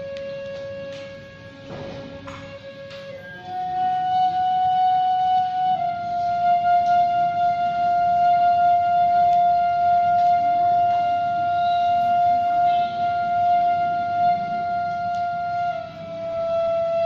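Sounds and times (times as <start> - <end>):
bamboo flute long note: 0.0 - 17.0.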